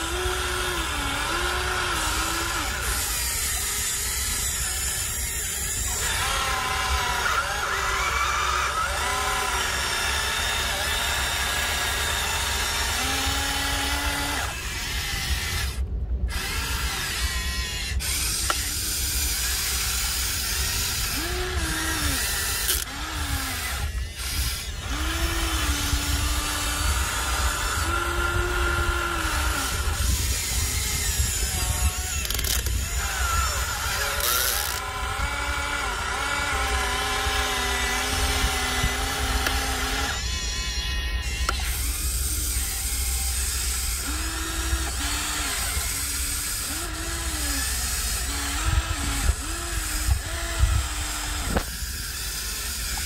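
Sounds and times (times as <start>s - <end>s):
toy excavator motors whining: 0.0s - 53.0s.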